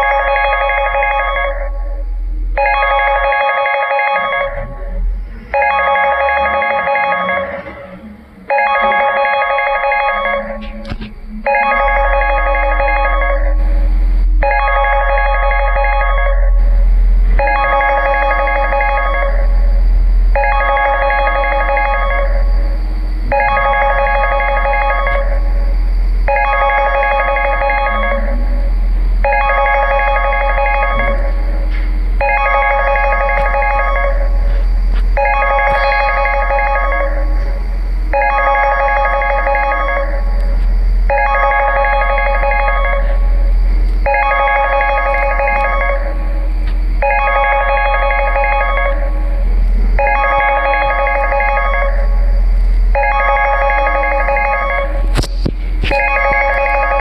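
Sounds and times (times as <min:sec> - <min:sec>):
warbling phone ringtone: 0:00.0 - 0:02.0, 0:02.6 - 0:07.8, 0:08.4 - 0:10.7, 0:11.4 - 0:13.8, 0:14.4 - 0:16.6, 0:17.4 - 0:19.5, 0:20.3 - 0:34.6, 0:35.2 - 0:40.4, 0:41.1 - 0:43.4, 0:44.0 - 0:49.4, 0:50.0 - 0:52.2, 0:52.9 - 0:55.1, 0:55.8 - 0:57.0
steady low hum: 0:00.0 - 0:57.0.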